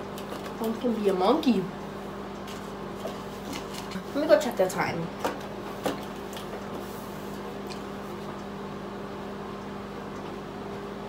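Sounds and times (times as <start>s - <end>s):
fan motor hum: 0.0s - 11.0s.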